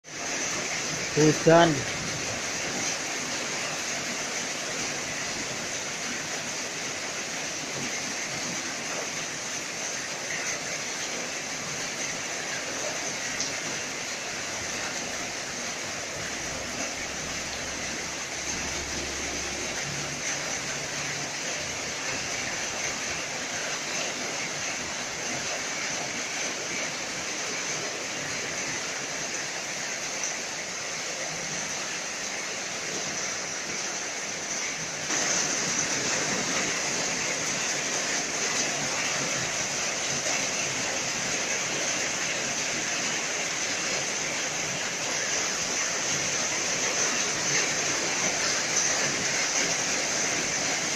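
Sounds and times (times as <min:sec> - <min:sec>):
heavy rain hissing: 0:00.0 - 0:50.9.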